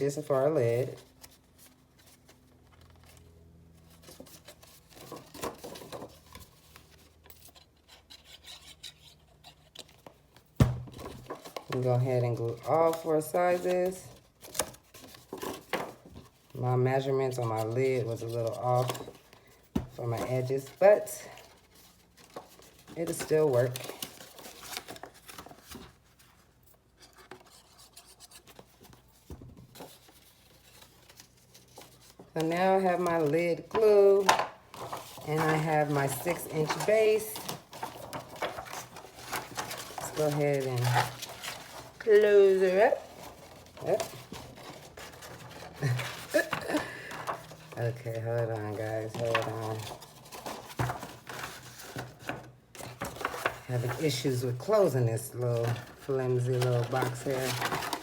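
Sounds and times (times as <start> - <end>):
cardstock rustling: 0.1 - 58.0.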